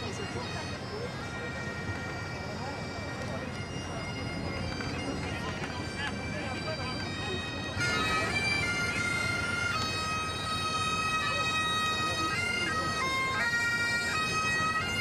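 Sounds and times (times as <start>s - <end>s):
bagpipes playing: 0.0s - 15.0s.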